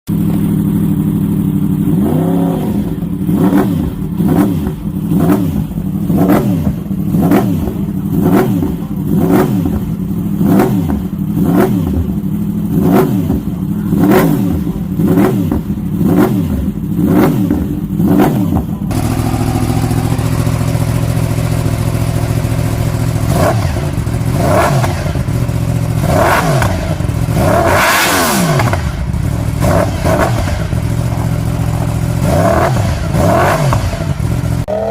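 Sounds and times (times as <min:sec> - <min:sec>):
motorcycle engine idling: 0:00.1 - 0:34.9
motorcycle engine revving: 0:00.1 - 0:34.9.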